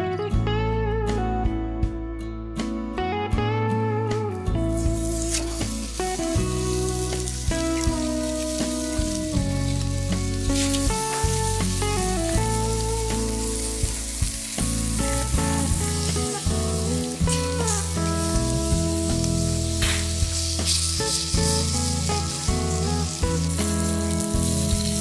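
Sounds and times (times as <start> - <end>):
background music: 0.0 - 25.0
steaks sizzling on grill: 4.7 - 25.0.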